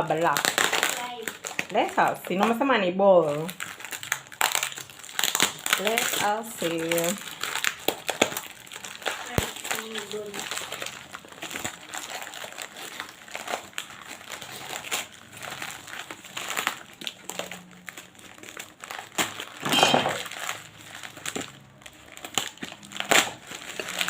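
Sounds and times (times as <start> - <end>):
packaging crinkling and tearing: 0.0 - 2.6, 3.2 - 24.0.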